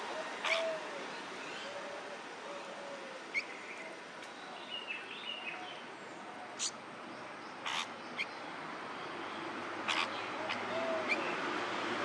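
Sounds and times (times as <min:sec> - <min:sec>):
steady background hiss: 0:00.0 - 0:11.7.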